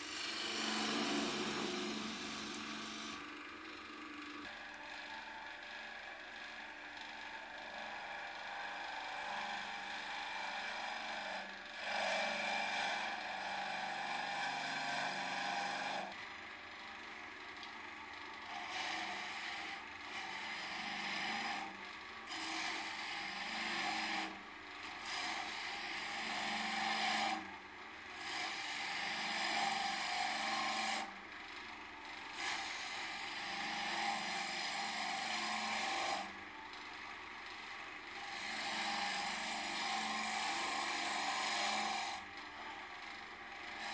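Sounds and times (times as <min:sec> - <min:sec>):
lathe tool scraping wood: 0:00.0 - 0:31.2, 0:32.0 - 0:43.9
wood lathe humming: 0:00.0 - 0:43.9.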